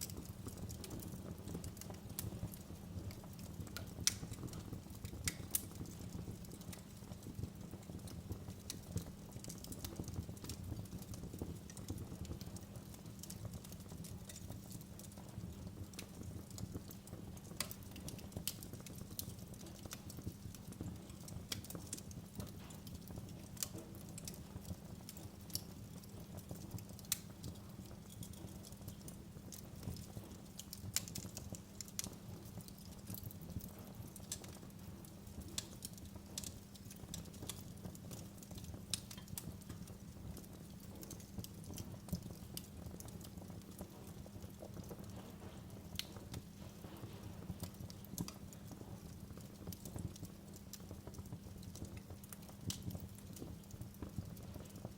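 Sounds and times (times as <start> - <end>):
low rumble of flames: 0.0 - 54.9
wood fire crackling: 0.0 - 54.9.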